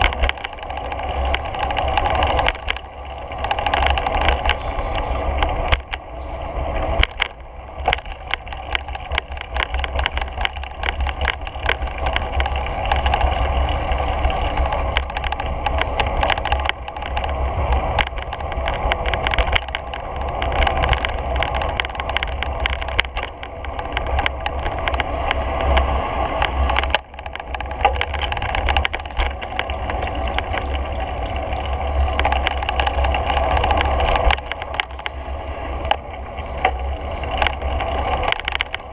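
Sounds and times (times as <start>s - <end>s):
wheels rolling on paved path: 0.0s - 38.9s
wind buffeting microphone: 0.0s - 38.9s.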